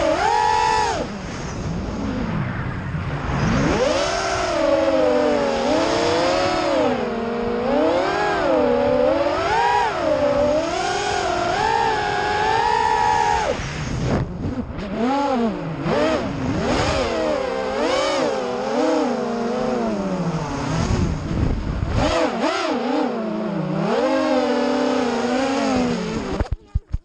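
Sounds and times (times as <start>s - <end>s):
quadcopter motors whining: 0.0s - 2.1s, 3.5s - 26.6s.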